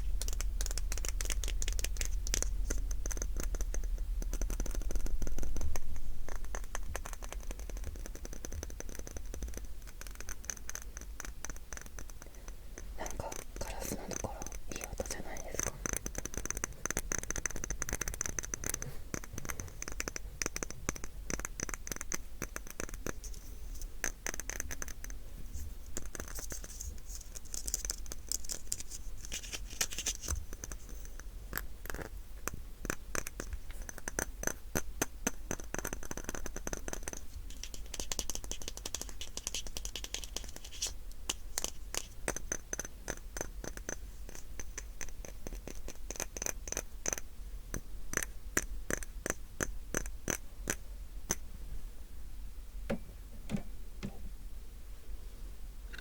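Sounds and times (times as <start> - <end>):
close scratching with rapid clicks: 0.0 - 51.4.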